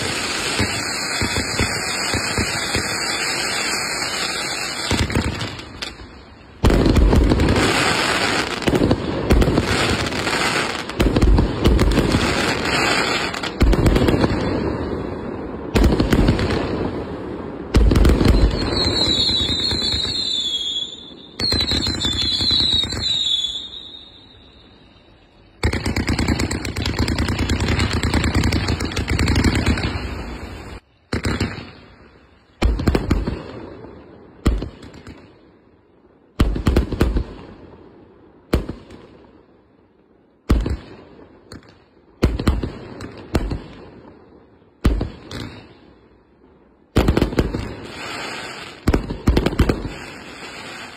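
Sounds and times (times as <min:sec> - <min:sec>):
high fireworks whistles: 0:00.0 - 0:37.6, 0:40.4 - 0:46.1, 0:46.9 - 0:50.9
fireworks shots and bursts: 0:00.0 - 0:50.9.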